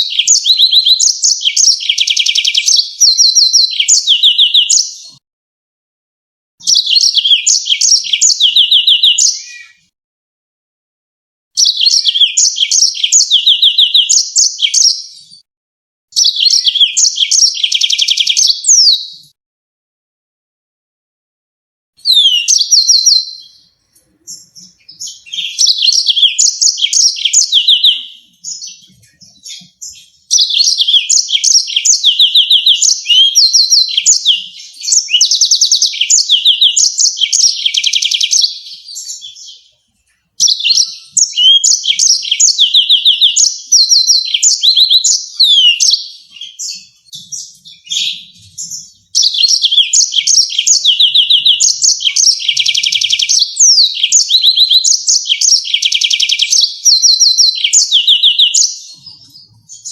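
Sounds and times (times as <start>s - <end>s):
canary singing trills: 0.0s - 5.2s, 6.6s - 10.0s, 11.6s - 15.5s, 16.1s - 19.4s, 22.0s - 59.9s.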